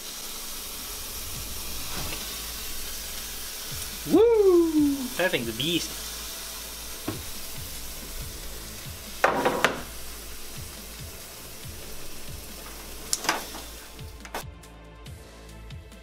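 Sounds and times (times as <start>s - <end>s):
sandwich sizzling on griddle: 0.0s - 14.4s.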